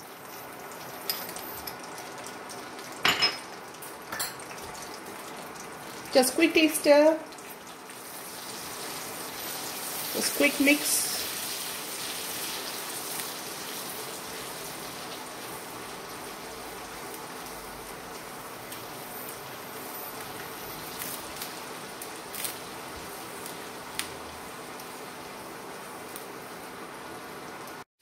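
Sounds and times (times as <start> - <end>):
spices sizzling in oil: 0.0 - 27.8.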